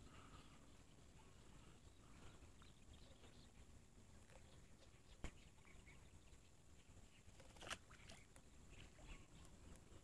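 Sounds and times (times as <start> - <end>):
faint outdoor ambience: 0.0 - 10.0.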